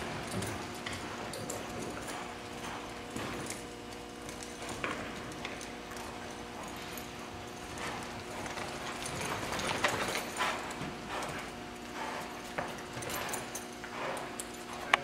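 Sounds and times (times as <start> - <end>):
hoofbeats on soft sand: 0.0 - 5.3, 6.1 - 14.4
cattle feet shuffling: 0.0 - 15.0
steady low hum: 0.0 - 15.0.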